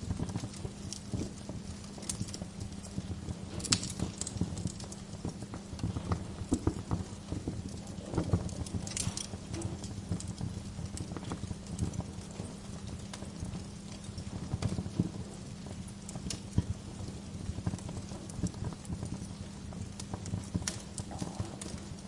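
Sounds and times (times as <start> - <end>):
low fire rumble: 0.0 - 22.0
wood fire crackling and popping: 0.0 - 22.0.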